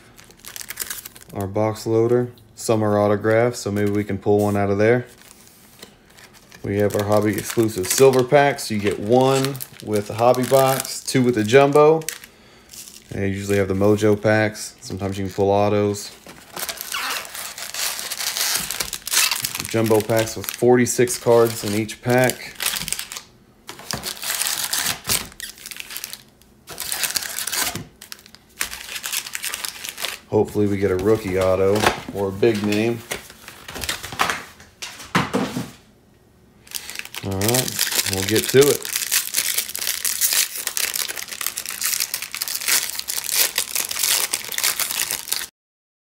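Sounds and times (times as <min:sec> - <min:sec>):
foil packs crinkling: 0:00.0 - 0:01.6, 0:03.6 - 0:34.5, 0:36.6 - 0:45.5.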